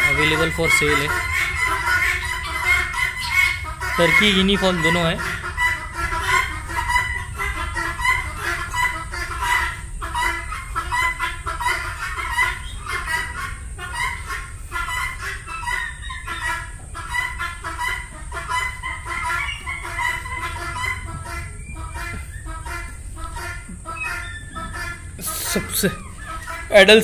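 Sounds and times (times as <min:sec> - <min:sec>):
guinea fowl and turkeys calling: 0:00.0 - 0:27.0.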